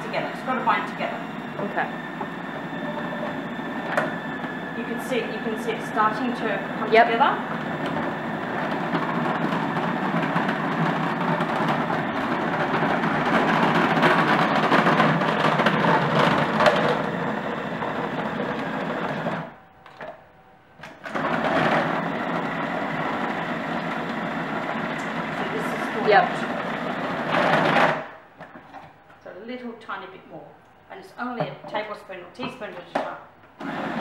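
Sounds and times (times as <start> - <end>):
food processor motor running: 0.0 - 19.5, 20.8 - 28.2, 33.6 - 34.0.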